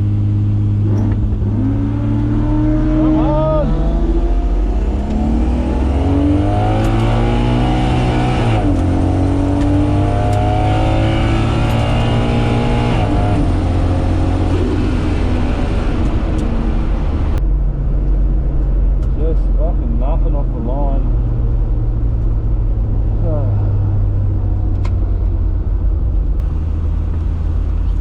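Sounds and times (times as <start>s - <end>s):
turbocharged engine at full throttle: 0.0s - 28.0s.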